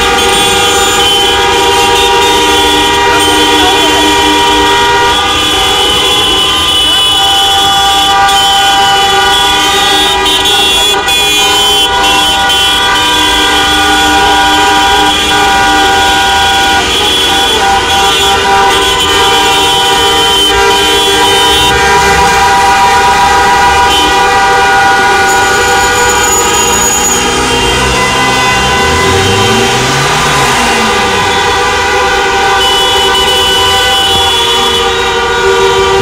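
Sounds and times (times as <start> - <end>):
many car horns sounding: 0.0 - 36.0
traffic noise: 0.0 - 36.0.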